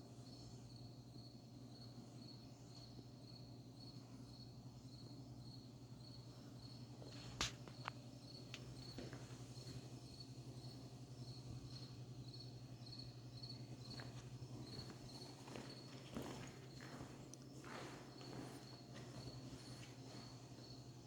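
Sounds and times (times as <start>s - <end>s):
faint crickets chirping: 0.0s - 21.0s
low steady hum: 0.0s - 21.0s.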